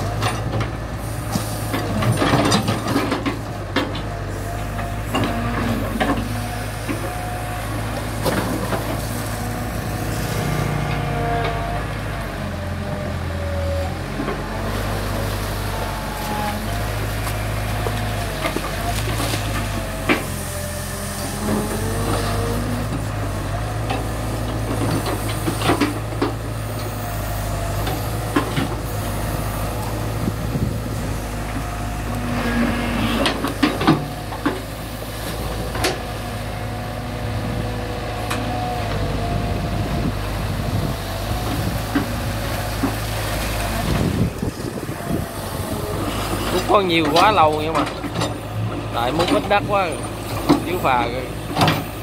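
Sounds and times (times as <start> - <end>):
diesel engine running: 0.0 - 52.0
hydraulic whine: 4.3 - 14.0, 19.4 - 37.6, 38.2 - 52.0.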